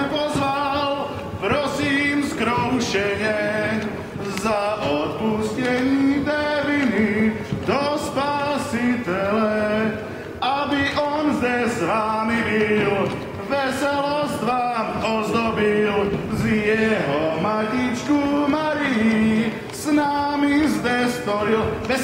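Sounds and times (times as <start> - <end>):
man singing folk song: 0.0 - 22.0.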